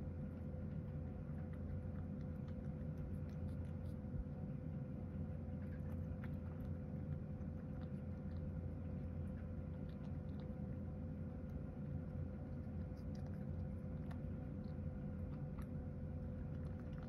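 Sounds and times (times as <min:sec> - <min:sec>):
cat chewing and licking: 0:00.0 - 0:17.0
steady low hum: 0:00.0 - 0:17.0.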